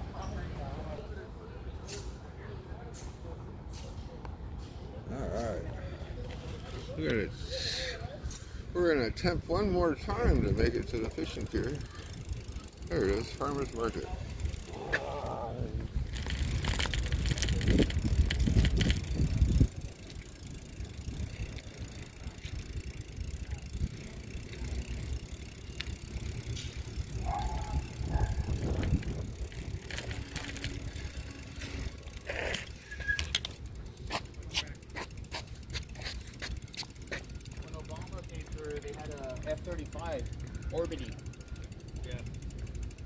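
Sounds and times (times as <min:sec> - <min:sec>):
road and wind rumble: 0:00.0 - 0:43.0
bicycle rattles: 0:08.3 - 0:43.0.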